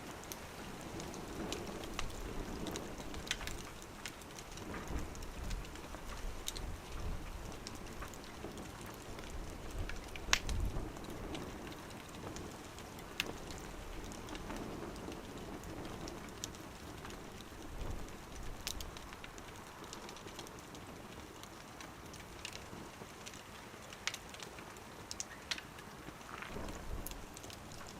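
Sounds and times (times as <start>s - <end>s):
fire hissing softly: 0.0s - 27.9s
wood fire crackling and popping: 0.0s - 27.9s.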